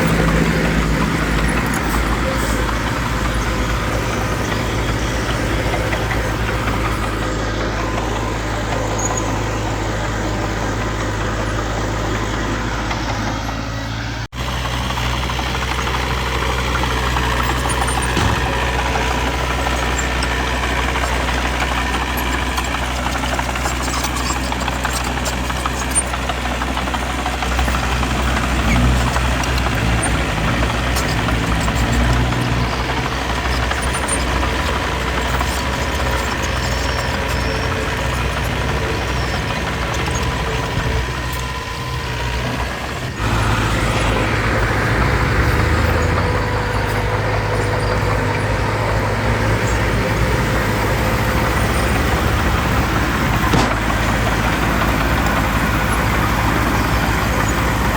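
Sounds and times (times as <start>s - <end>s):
heavy diesel engines rumbling: 0.0s - 57.9s.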